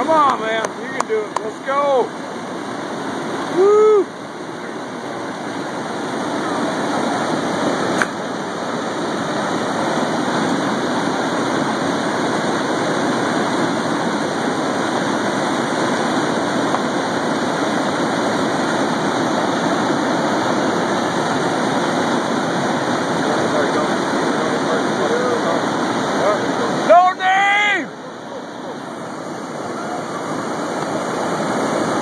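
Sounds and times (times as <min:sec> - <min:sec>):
water rushing over spillway: 0:00.0 - 0:32.0.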